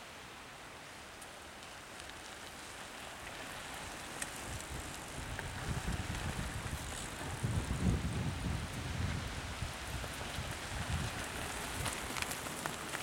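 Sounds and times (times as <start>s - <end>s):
bike tyres crackling over dirt: 0.7s - 13.0s.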